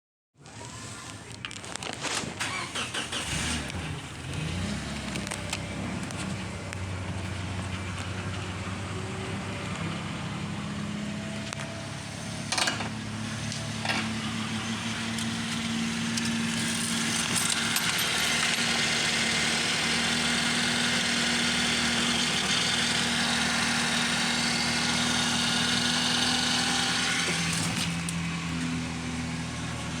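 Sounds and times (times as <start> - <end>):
engine starting and running: 0.4 - 30.0.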